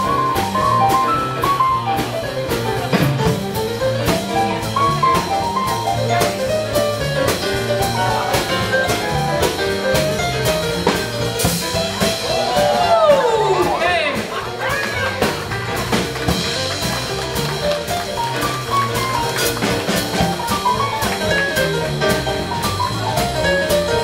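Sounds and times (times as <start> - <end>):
drum kit beat: 0.0 - 24.0
swing jazz band playing: 0.0 - 24.0.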